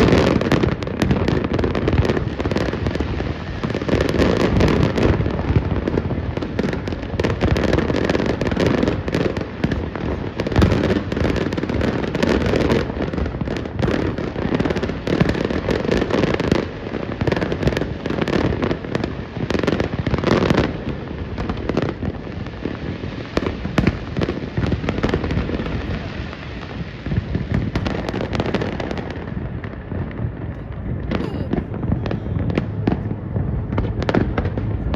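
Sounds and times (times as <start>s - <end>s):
fireworks booms and crackling: 0.0s - 34.9s.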